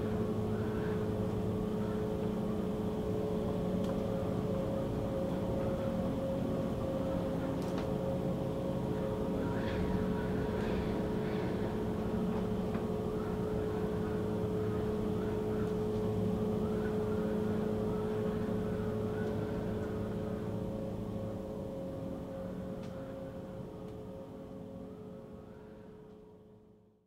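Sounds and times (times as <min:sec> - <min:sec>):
low droning hum: 0:00.0 - 0:27.0.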